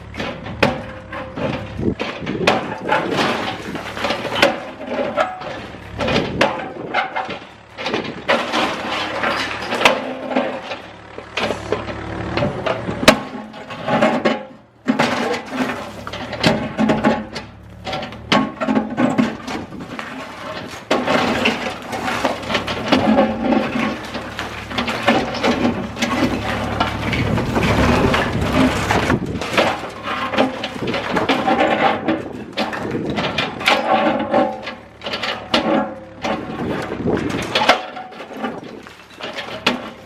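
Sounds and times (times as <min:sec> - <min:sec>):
concrete crunching and cracking: 0:00.0 - 0:40.0
diesel engine running: 0:00.0 - 0:40.0.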